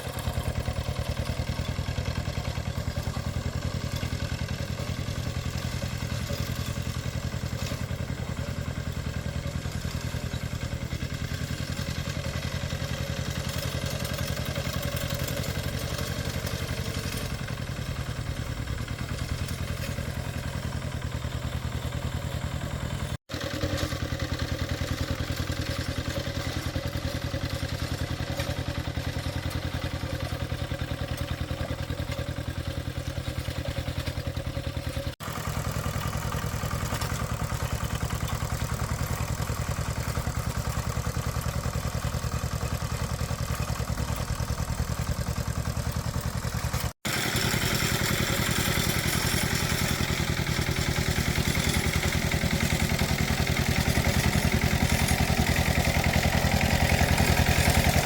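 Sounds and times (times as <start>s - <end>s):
engine running with rapid chug: 0.0s - 58.0s.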